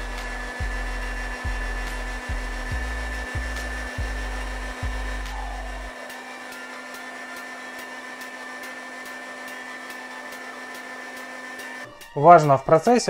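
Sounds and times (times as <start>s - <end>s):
meat grinder motor humming: 0.0s - 11.9s.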